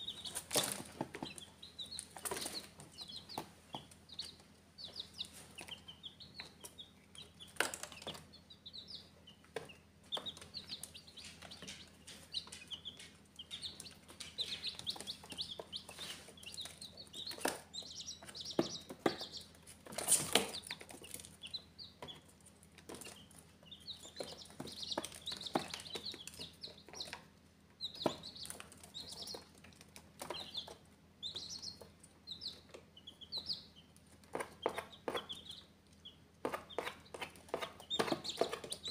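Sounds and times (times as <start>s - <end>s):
baby chicks peeping: 0.0s - 38.9s
chicks scratching on cardboard: 0.0s - 38.9s
chicks scuffling: 0.0s - 38.9s.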